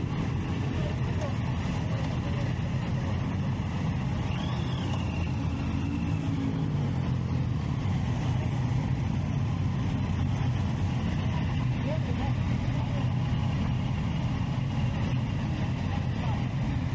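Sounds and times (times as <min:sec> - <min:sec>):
motorcycle engine while riding: 0:00.0 - 0:16.9
road noise: 0:00.0 - 0:16.9.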